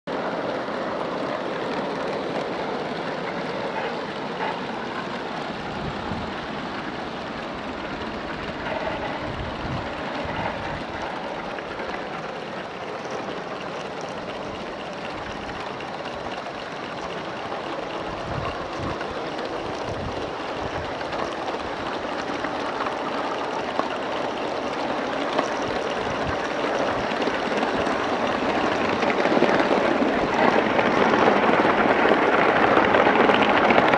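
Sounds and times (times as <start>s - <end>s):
model steam locomotive running: 0.0s - 33.9s.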